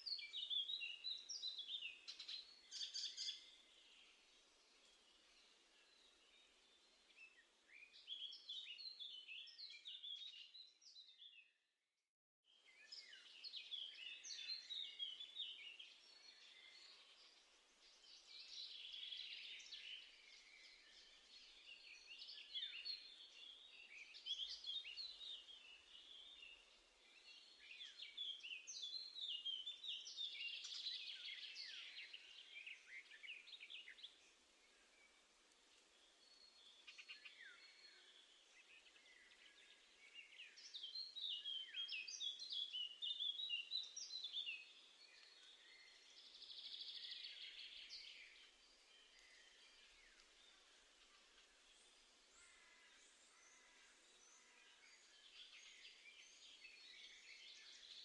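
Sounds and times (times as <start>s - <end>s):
songbirds chirping and trilling: 0.0s - 11.6s, 12.5s - 58.0s.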